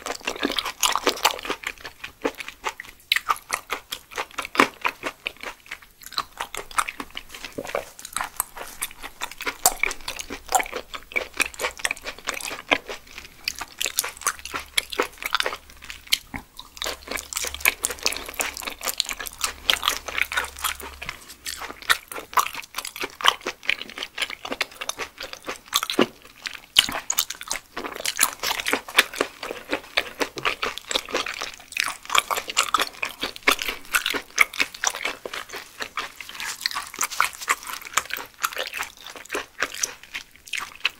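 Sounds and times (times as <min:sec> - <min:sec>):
wet chewing clicks and crunches: 0:00.0 - 0:40.9.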